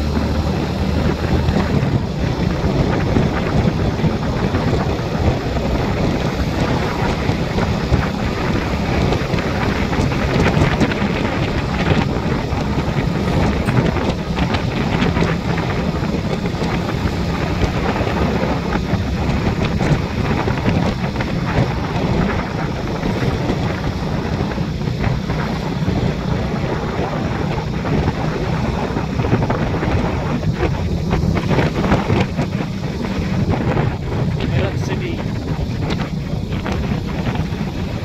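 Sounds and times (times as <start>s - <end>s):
vehicle engine and tyres droning: 0.0s - 38.0s
wind on microphone: 0.0s - 38.0s.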